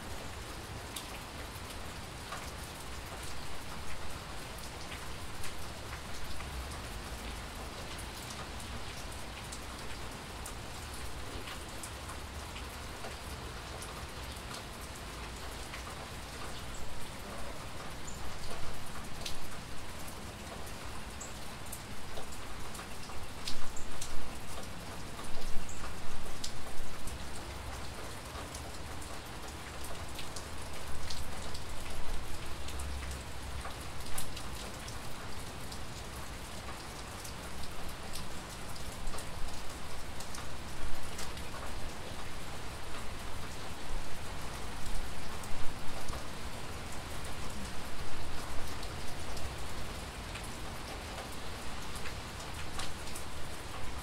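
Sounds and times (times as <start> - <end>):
raindrops ticking and pattering: 0.0 - 54.0
steady rain falling: 0.0 - 54.0.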